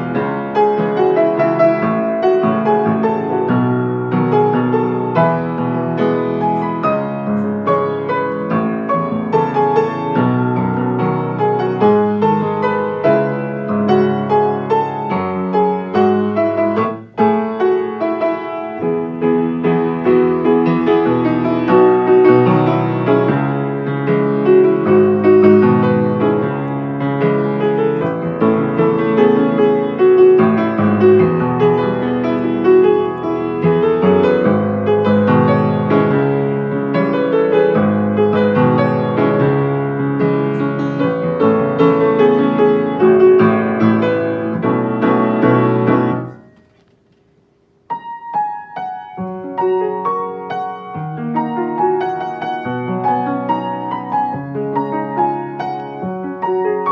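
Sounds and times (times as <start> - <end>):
solo piano: 0.0 - 56.9.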